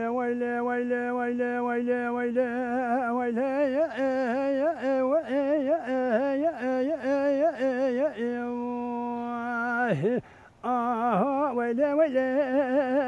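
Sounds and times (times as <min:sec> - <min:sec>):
man singing folk style: 0:00.0 - 0:13.0.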